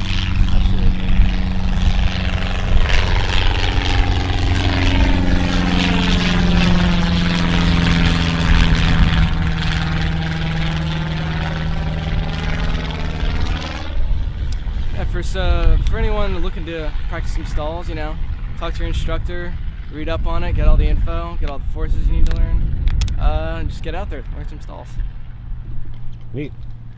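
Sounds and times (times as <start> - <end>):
propeller airplane droning overhead: 0.0 - 26.9.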